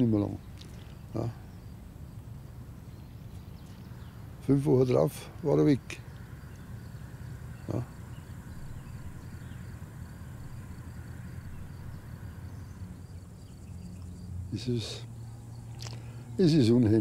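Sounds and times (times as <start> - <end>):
insects chirping faintly: 0.0 - 17.0
low steady hum: 0.0 - 17.0.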